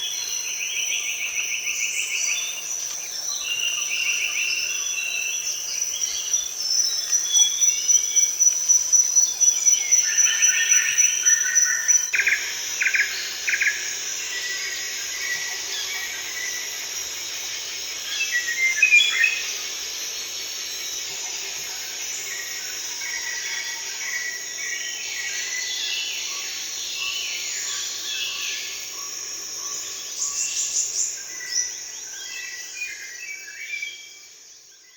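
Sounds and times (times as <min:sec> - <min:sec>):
high-pitched insect drone: 0:00.0 - 0:34.9.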